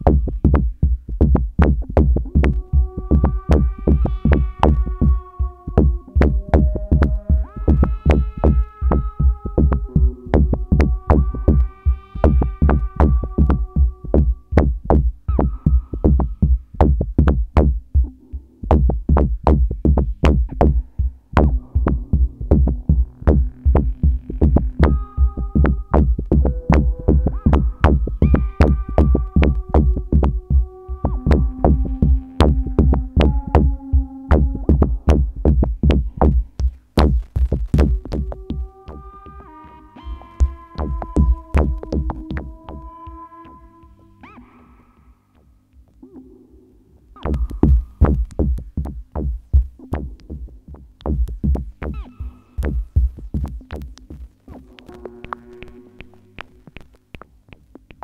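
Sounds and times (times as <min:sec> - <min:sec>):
drum machine hits: 0:00.0 - 0:43.2, 0:47.2 - 0:58.0
deep synth bass: 0:00.0 - 0:44.0, 0:47.2 - 0:56.9
held synth notes: 0:01.5 - 0:57.2.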